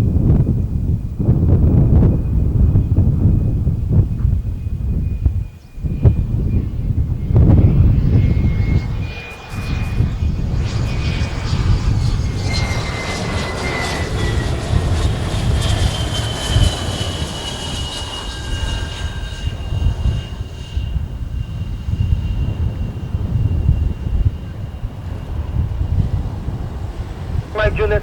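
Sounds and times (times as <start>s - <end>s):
jet engines running at high power: 0.0s - 28.0s.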